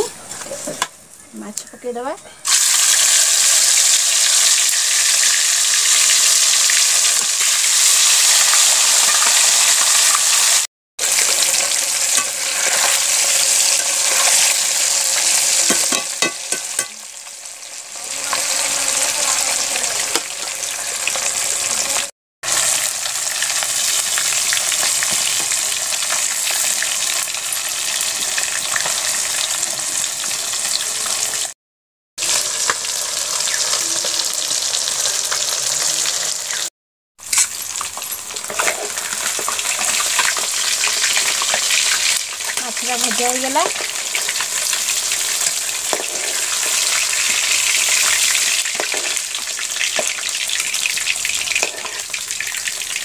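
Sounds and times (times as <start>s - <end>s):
fish sizzling in hot oil: 1.5s - 31.6s, 32.2s - 53.0s.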